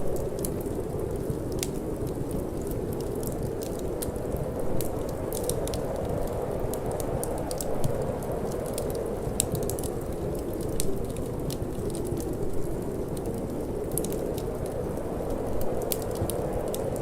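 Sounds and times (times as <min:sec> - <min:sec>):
low rush of wind: 0:00.0 - 0:17.0
wood fire crackling and popping: 0:00.0 - 0:17.0.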